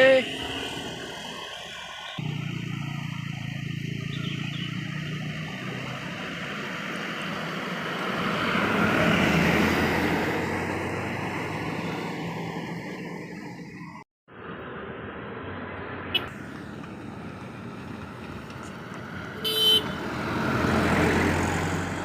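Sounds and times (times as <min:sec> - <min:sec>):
heavy vehicle passing: 0:00.0 - 0:13.7, 0:14.4 - 0:22.0.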